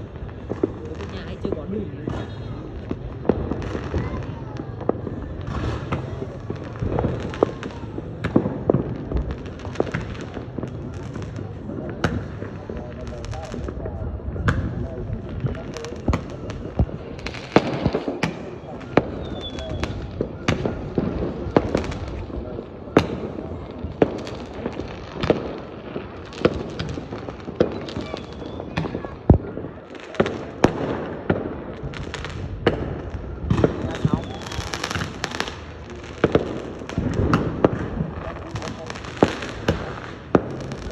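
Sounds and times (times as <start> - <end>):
fireworks bursting: 0.0 - 40.9
fireworks pops and crackles: 0.0 - 40.9
loud fireworks cracks: 0.0 - 40.9.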